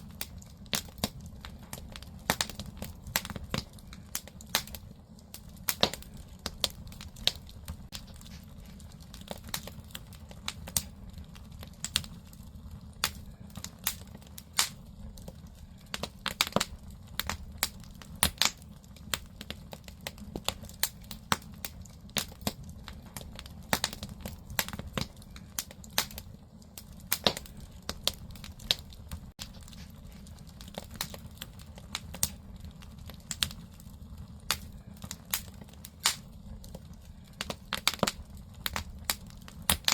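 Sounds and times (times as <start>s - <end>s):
firewood crackling and popping: 0.0s - 39.9s
low fire rumble: 0.0s - 39.9s.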